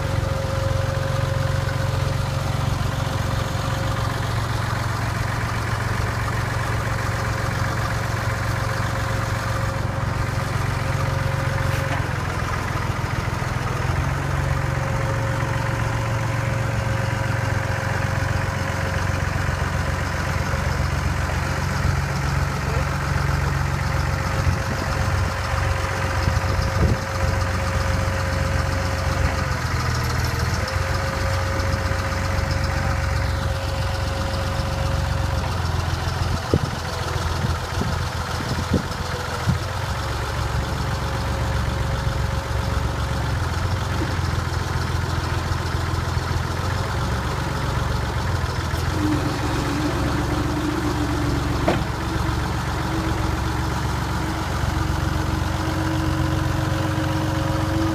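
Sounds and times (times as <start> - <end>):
forklift engine idling: 0.0 - 57.9.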